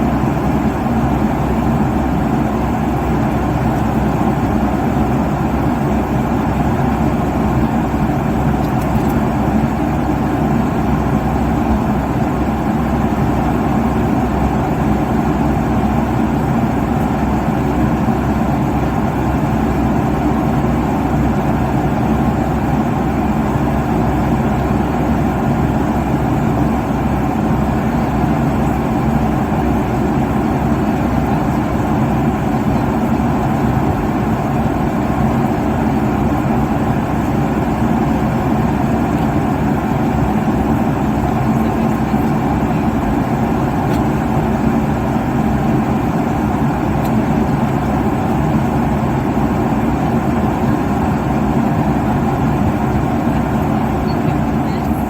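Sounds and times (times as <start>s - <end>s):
airliner cabin airflow and engine noise: 0.0s - 55.0s
faint steady hum: 0.0s - 55.0s.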